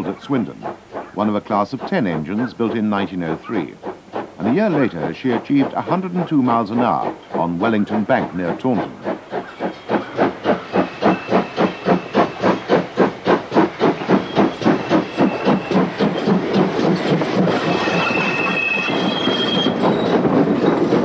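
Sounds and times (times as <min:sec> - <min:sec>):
rush of steam and running gear: 0:00.0 - 0:21.0
steam locomotive exhaust beats: 0:00.0 - 0:21.0.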